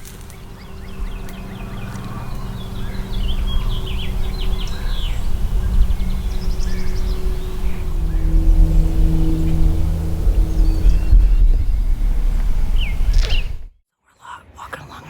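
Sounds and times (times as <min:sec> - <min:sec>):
low steady rumble: 0:00.0 - 0:13.7
small songbirds chirping: 0:00.0 - 0:13.7.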